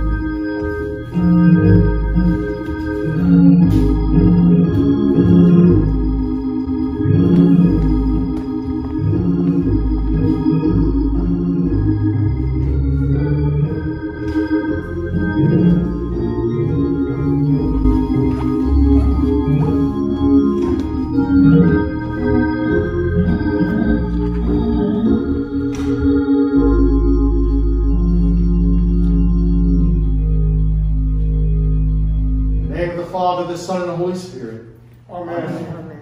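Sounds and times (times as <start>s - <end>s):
low organ bass line: 0.0s - 35.1s
organ chords: 0.0s - 36.0s.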